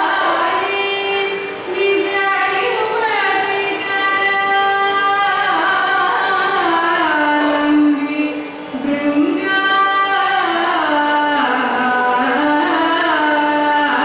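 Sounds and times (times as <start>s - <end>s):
person singing long sliding notes: 0.0s - 14.0s.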